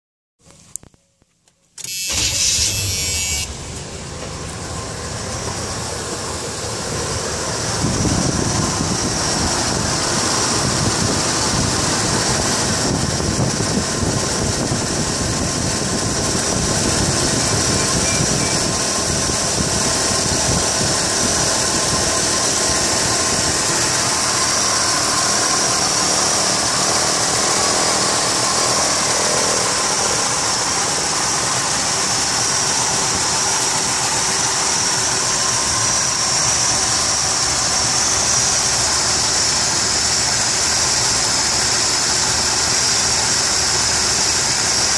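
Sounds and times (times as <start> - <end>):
car engine idling: 2.0 - 44.9.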